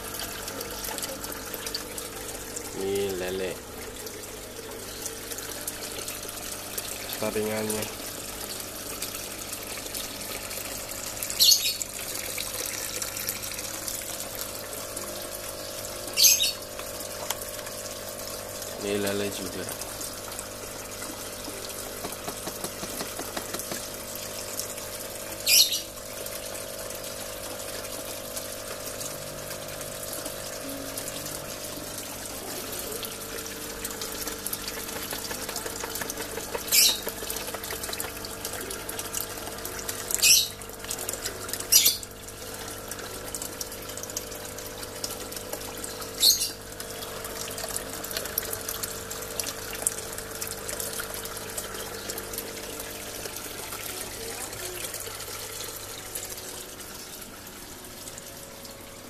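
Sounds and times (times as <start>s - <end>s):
water splashing into pond: 0.0s - 58.8s.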